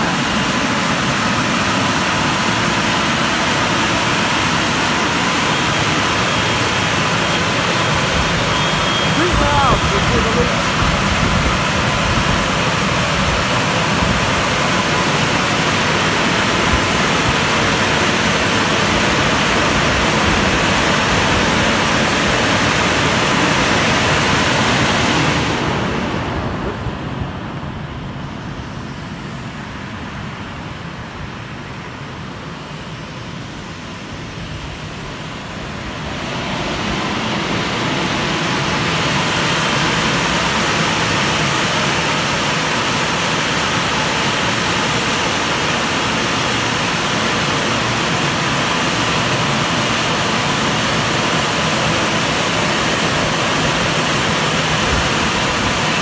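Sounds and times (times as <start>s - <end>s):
car wash drying blowers: 0.0s - 56.0s.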